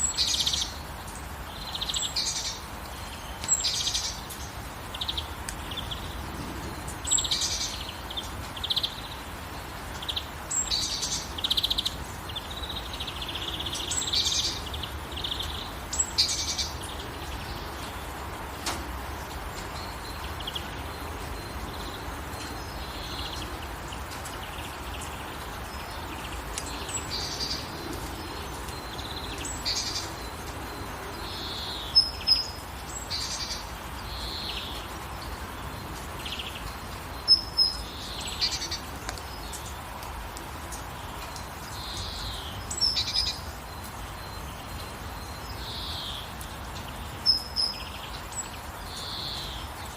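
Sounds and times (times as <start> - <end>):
gentle rain: 0.0 - 49.9
songbirds chirping: 0.0 - 49.9.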